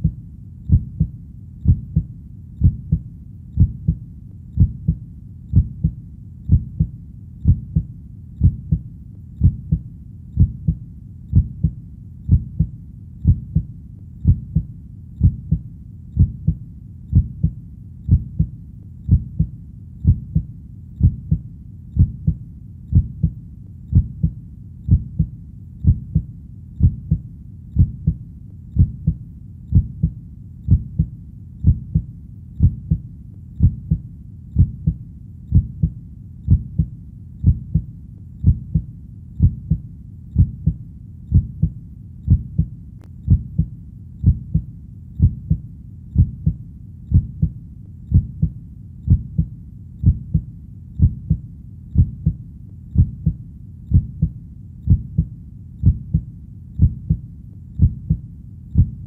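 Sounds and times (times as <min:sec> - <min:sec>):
heartbeat double thump: 0:00.0 - 0:03.0, 0:03.6 - 0:04.0, 0:04.6 - 0:08.8, 0:09.4 - 0:09.8, 0:10.4 - 0:15.6, 0:16.2 - 0:18.5, 0:19.1 - 0:21.4, 0:22.0 - 0:27.2, 0:27.8 - 0:28.2, 0:28.8 - 0:33.0, 0:33.6 - 0:34.0, 0:34.6 - 0:39.8, 0:40.4 - 0:42.7, 0:43.3 - 0:45.6, 0:46.2 - 0:51.4, 0:52.0 - 0:52.4, 0:53.0 - 0:57.2, 0:57.8 - 0:58.2, 0:58.8 - 0:59.0.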